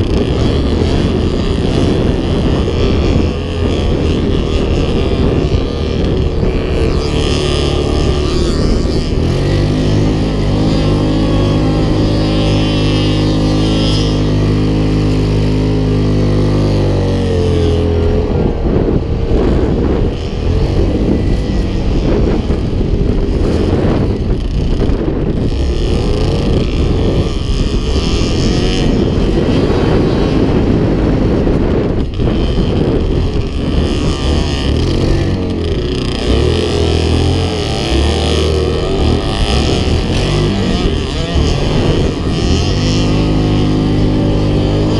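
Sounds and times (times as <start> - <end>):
quad bike engine running: 0.0 - 44.9
wind on microphone: 0.0 - 44.9.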